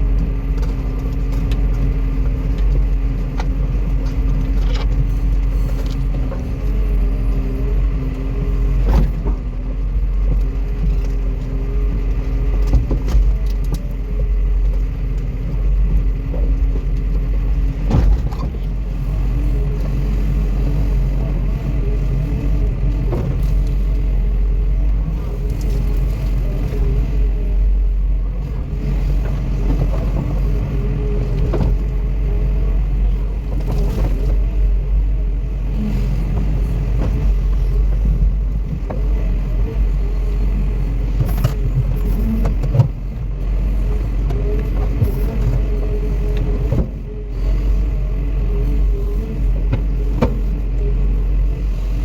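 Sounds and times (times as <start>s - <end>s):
engine running with low rumble: 0.0s - 52.0s.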